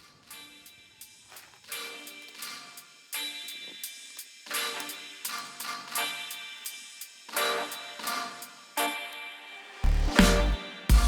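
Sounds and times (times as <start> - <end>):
instrumental background music: 0.3 - 11.0.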